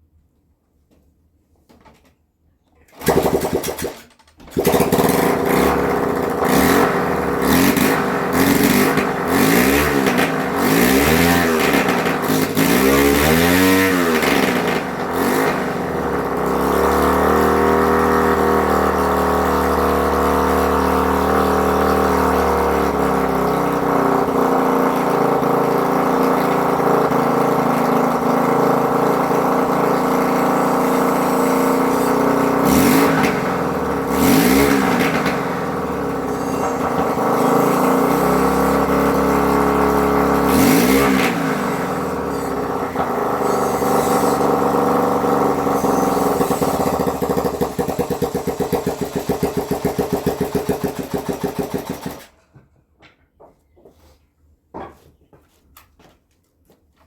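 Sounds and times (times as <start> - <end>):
motorcycle engine revving: 2.9 - 52.4.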